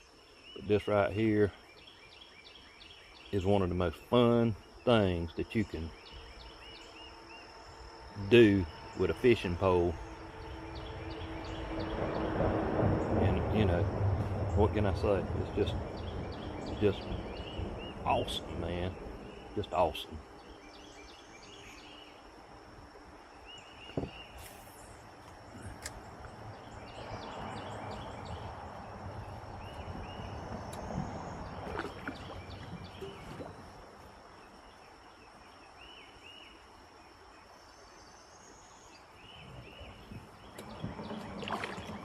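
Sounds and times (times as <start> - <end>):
insect drone: 0.0 - 42.0.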